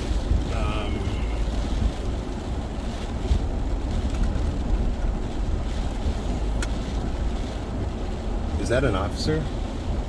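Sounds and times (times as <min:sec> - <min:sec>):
car cabin rumble: 0:00.0 - 0:10.0
wind outside car: 0:00.0 - 0:10.0.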